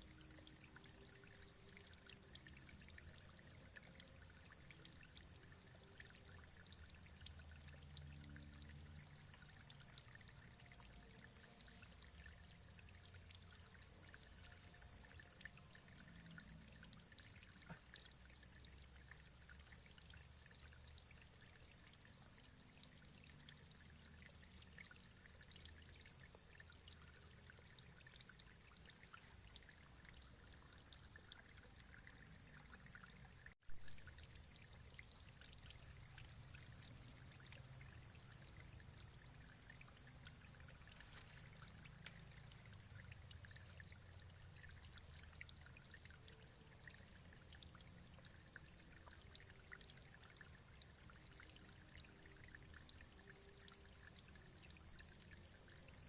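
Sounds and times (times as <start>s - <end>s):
stream trickling: 0.0s - 56.0s
water drips and splashes: 0.0s - 56.0s.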